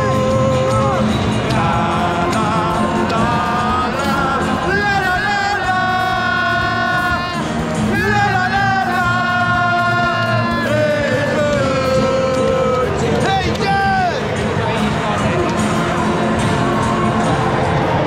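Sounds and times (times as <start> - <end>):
football crowd singing: 0.0 - 18.0.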